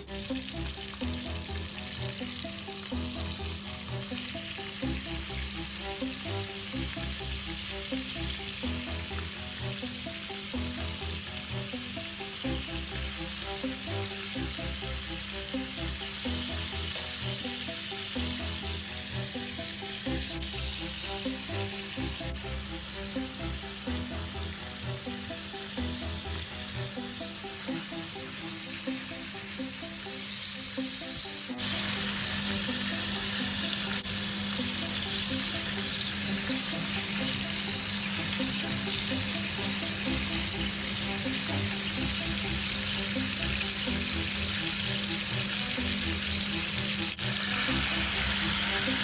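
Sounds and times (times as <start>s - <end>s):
background music: 0.0s - 49.0s
chicken sizzling in a pan: 0.0s - 49.0s.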